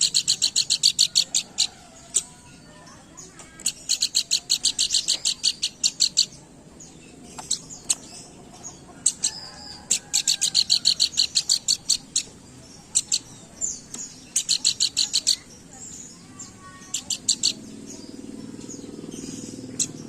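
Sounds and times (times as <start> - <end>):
bird high sharp chirps: 0.0 - 6.5, 7.2 - 20.0.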